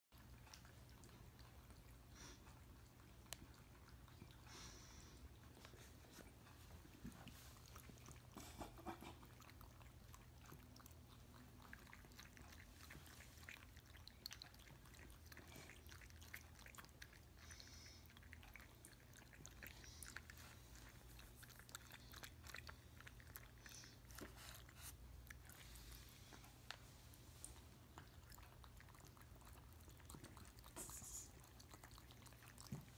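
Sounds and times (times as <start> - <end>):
cats lapping water: 0.1 - 32.9.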